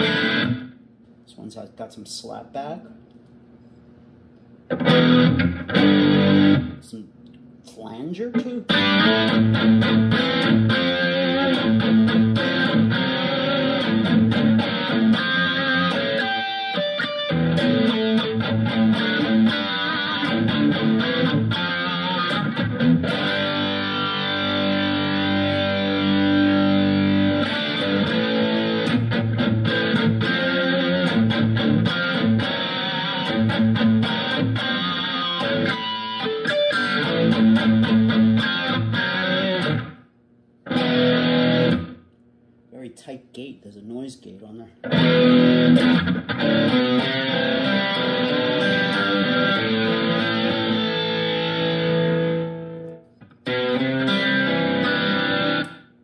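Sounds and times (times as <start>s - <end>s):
distorted electric guitar riffing: 0.0s - 0.8s, 4.7s - 6.9s, 8.3s - 40.0s, 40.6s - 42.0s, 44.8s - 55.9s.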